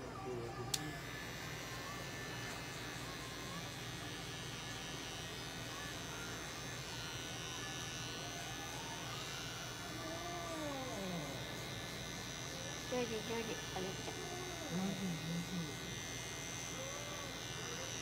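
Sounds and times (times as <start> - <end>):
pet clipper buzzing: 0.6 - 18.0.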